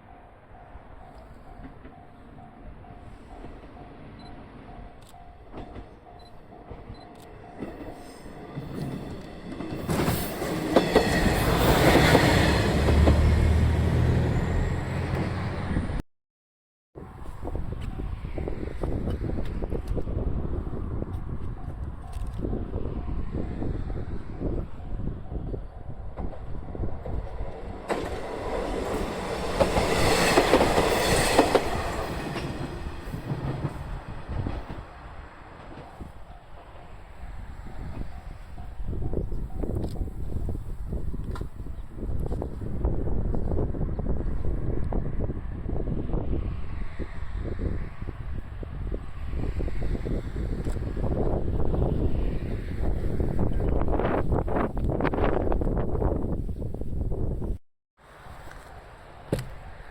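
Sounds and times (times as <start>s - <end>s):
diesel railcar rumbling past: 0.0s - 16.0s, 17.0s - 56.2s.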